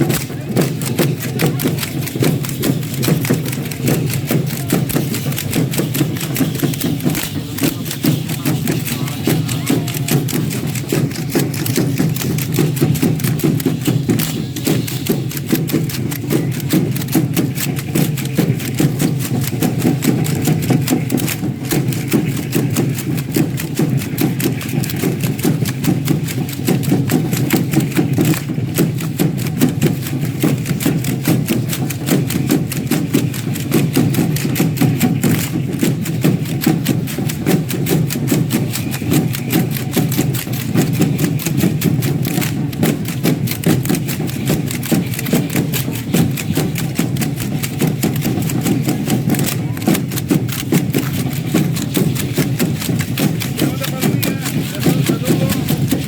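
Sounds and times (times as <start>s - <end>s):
fast clicks and rattling: 0.0s - 56.0s
steady drumbeat: 0.0s - 56.0s.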